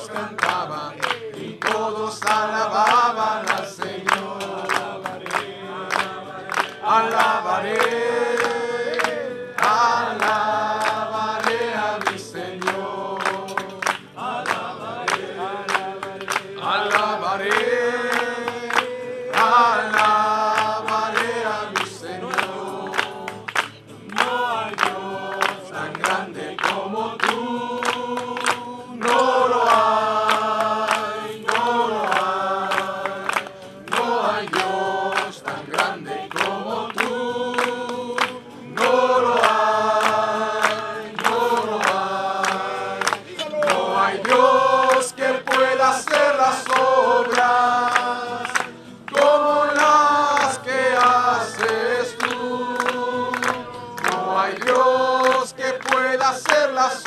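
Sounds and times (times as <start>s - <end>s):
congregation singing: 0.0s - 57.0s
hand clapping on the beat: 0.0s - 57.0s.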